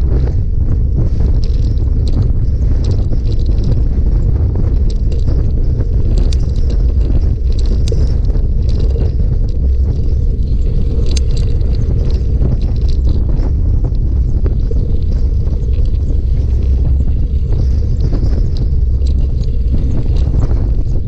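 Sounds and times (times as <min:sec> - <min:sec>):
bicycle clicks and rattles: 0:00.0 - 0:21.0
wind rumbling on microphone: 0:00.0 - 0:21.0.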